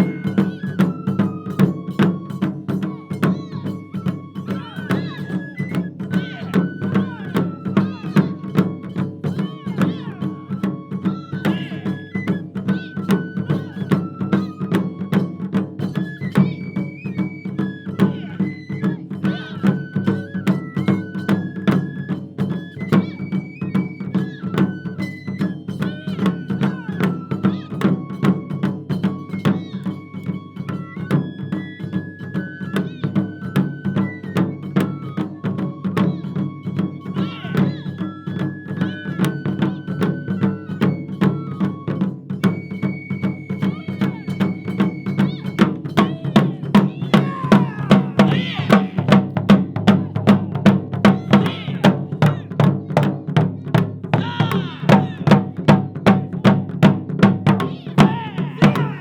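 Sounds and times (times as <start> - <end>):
drum ensemble rapid strikes: 0.0 - 31.7, 37.2 - 59.0.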